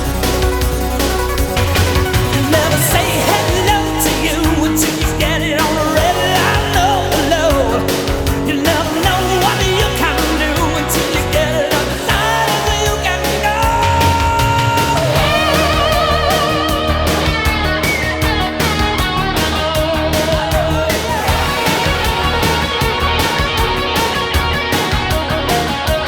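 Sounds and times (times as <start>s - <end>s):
electric guitar: 0.0s - 26.0s
rock music with singing: 0.0s - 26.0s
steady beat: 0.0s - 26.0s.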